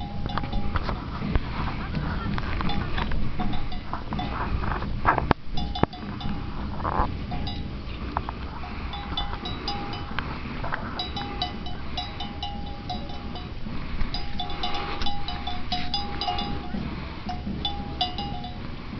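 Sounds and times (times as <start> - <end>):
small bells clanking: 0.0 - 18.9
steady low rumble: 0.0 - 18.9.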